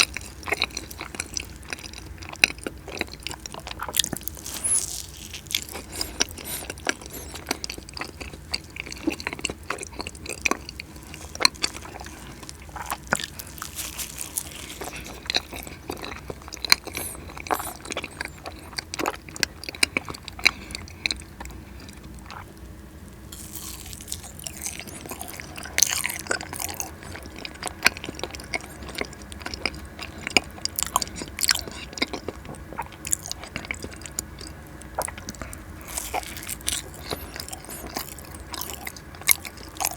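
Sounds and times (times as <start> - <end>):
chewing with mouth clicks: 0.0 - 22.5, 23.3 - 39.9.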